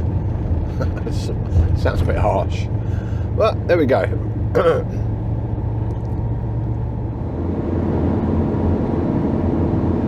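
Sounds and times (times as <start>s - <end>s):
engine and road noise drone: 0.0s - 10.0s.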